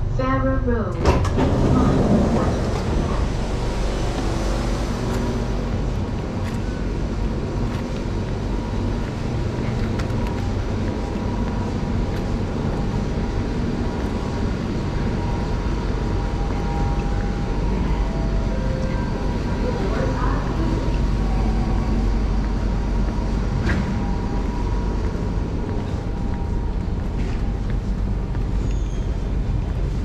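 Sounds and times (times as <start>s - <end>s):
train rumble and hum: 0.0s - 30.0s.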